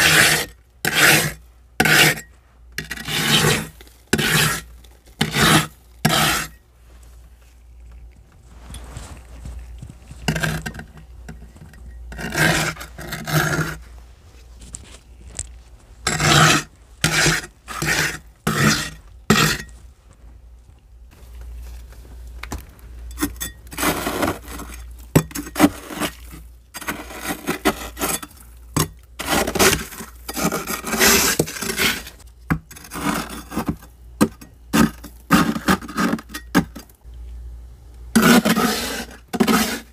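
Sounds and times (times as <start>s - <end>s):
scraper scraping frost: 0.0s - 15.4s, 16.0s - 19.7s, 23.7s - 28.5s, 29.2s - 33.8s, 34.7s - 36.3s, 38.2s - 39.9s.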